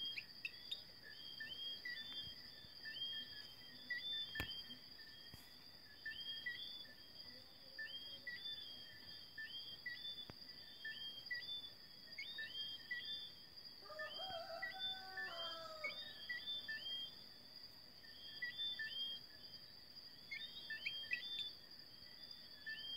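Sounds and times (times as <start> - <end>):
whistling frog calls: 0.0 - 17.3, 18.0 - 19.4, 20.2 - 22.9
high insect trill: 0.0 - 22.9.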